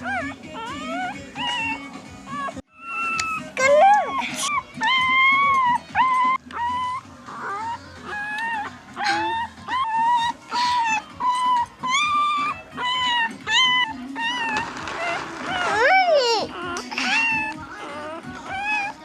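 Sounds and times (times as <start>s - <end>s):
puppy yapping: 0.0s - 19.0s.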